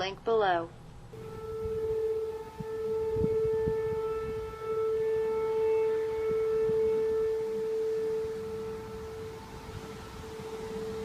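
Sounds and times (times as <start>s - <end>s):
siren-like drone: 1.2s - 11.0s.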